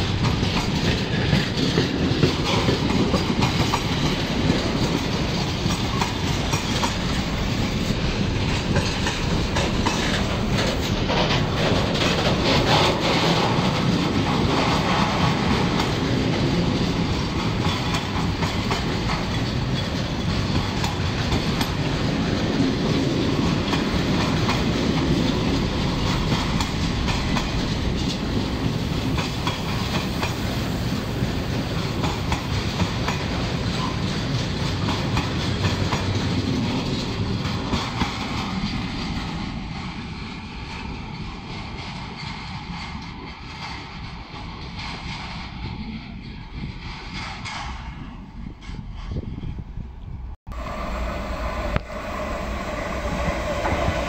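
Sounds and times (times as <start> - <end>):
freight train wheels clattering: 0.0 - 49.6.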